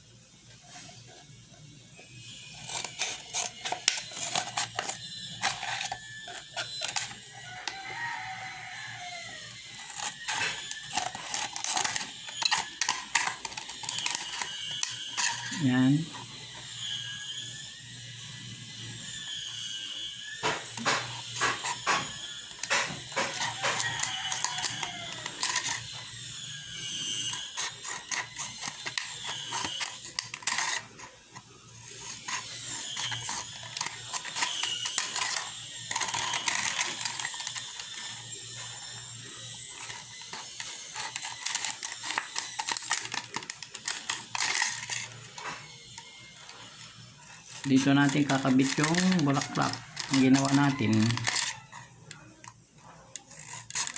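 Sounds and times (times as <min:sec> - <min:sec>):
scissors cutting plastic: 0:02.1 - 0:53.9.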